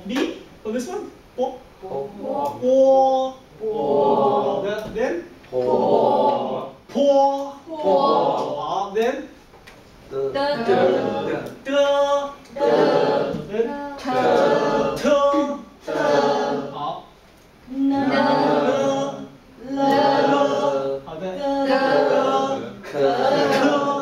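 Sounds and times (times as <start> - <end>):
voices chanting syllables: 1.8 - 4.9, 5.5 - 8.9, 10.1 - 17.1, 17.7 - 24.0.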